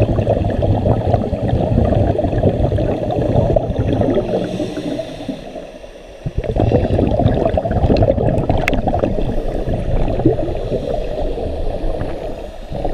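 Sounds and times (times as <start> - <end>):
underwater regulator bubbles gurgling: 0.0 - 12.9.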